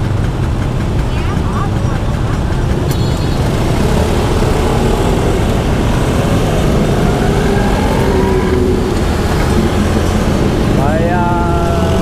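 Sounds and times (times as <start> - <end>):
scooter engine running: 0.0 - 12.0
street traffic: 0.0 - 12.0.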